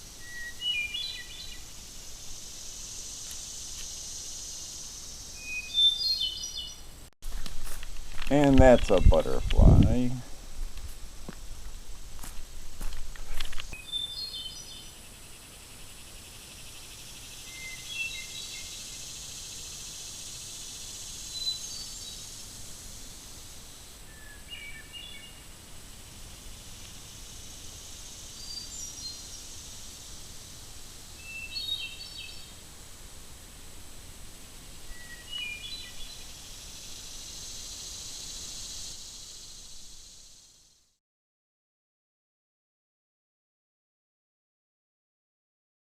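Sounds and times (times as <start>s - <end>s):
songbird singing: 0.0s - 7.0s, 7.7s - 32.6s, 34.4s - 40.4s
steady high hiss: 0.0s - 41.0s.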